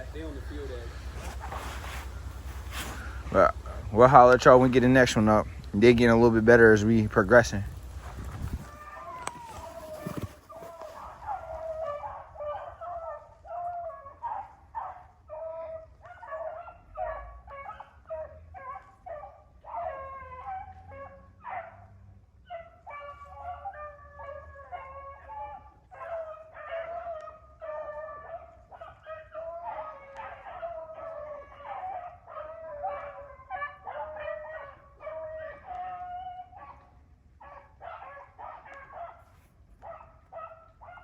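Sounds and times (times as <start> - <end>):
dogs baying: 0.0 - 41.0.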